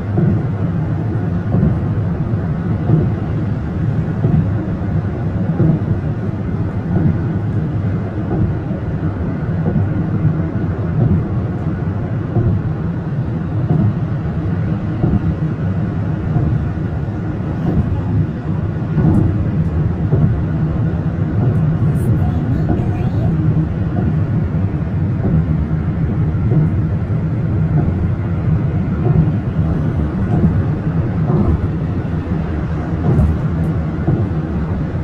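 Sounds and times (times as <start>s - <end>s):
car tyres and engine rumble: 0.0s - 35.0s.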